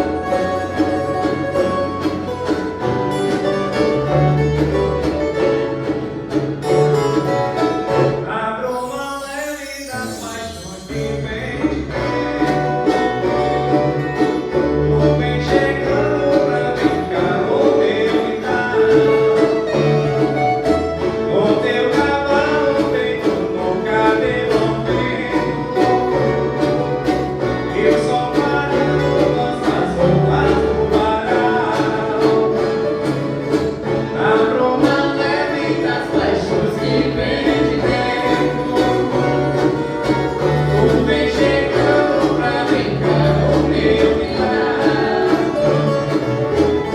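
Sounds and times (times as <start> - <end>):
plucked guitar ensemble: 0.0 - 46.9.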